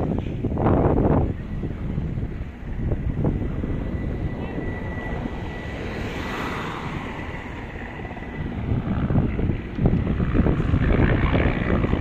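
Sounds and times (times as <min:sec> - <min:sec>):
aircraft engine passing over: 0:00.0 - 0:12.0
wind rumble on microphone: 0:00.0 - 0:12.0.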